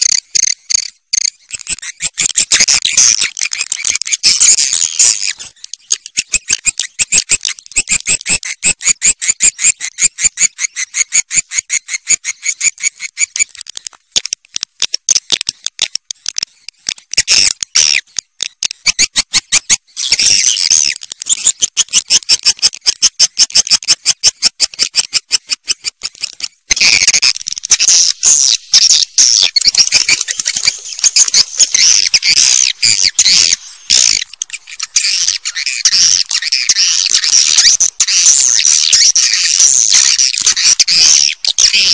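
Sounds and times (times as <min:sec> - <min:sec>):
swiftlets chirping and clicking: 0:00.0 - 0:41.9.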